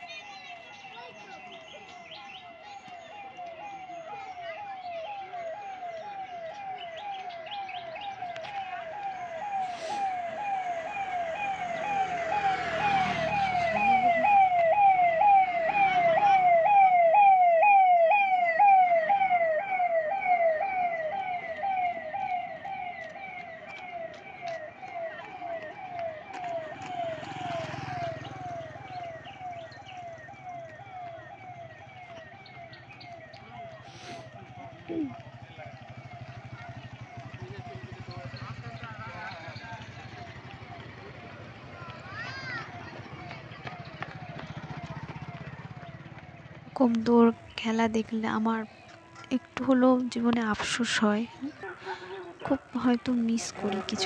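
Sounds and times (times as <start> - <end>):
emergency vehicle siren: 0.0 - 54.0
low road vehicle rumble: 1.4 - 54.0.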